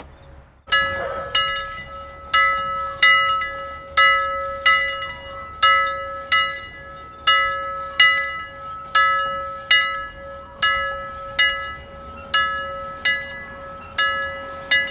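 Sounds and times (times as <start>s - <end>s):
church bell pealing: 0.7s - 14.9s.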